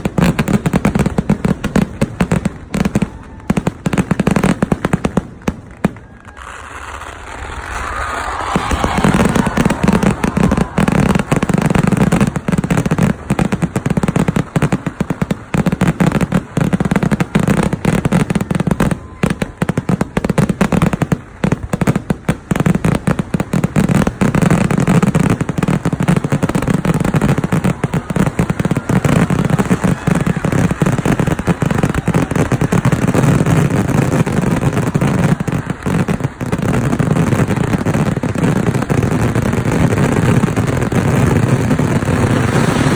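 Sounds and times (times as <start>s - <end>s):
firecracker explosions: 0.0s - 42.9s.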